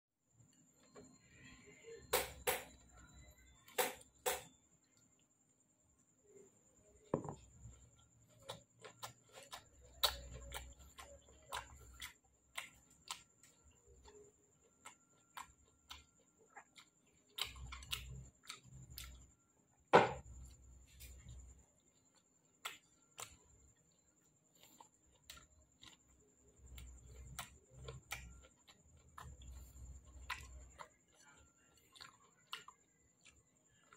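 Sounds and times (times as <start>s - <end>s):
soft chewing: 0.3s - 3.8s, 4.5s - 33.9s.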